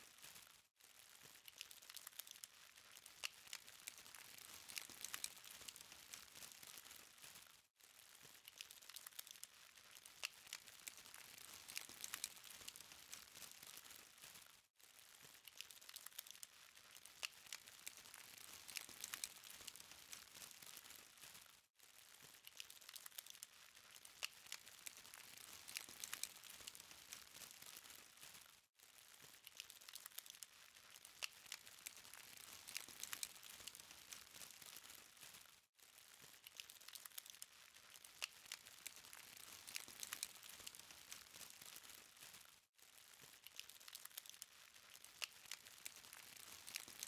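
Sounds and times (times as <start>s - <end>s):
charcoal crackling: 0.0s - 47.0s.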